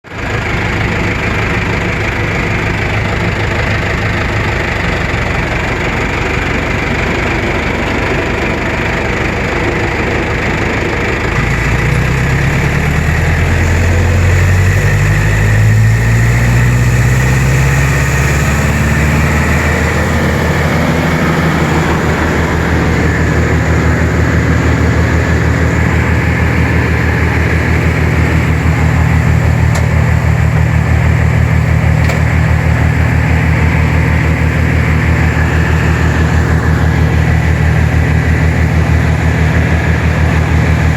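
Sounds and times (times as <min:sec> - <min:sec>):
wood chipper engine: 0:00.0 - 0:40.9.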